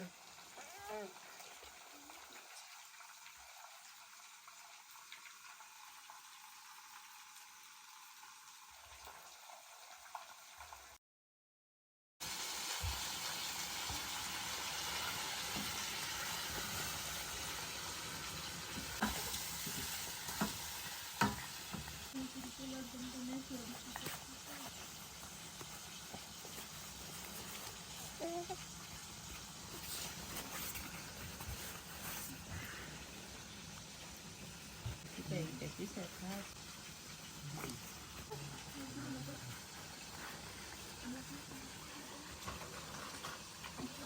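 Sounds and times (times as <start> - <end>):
food sizzling in hot oil: 0.0 - 11.0, 12.2 - 44.0.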